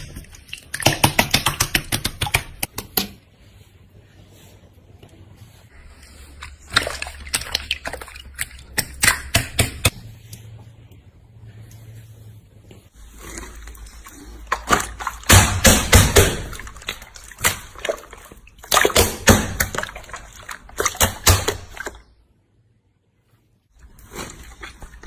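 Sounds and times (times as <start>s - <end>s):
slime squishing by hand: 0.0s - 22.4s, 23.7s - 25.0s.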